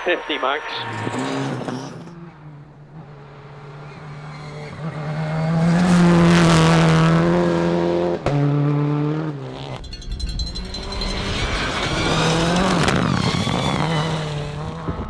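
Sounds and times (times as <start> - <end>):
rally car engine at high revs: 0.8 - 9.8, 10.4 - 15.0.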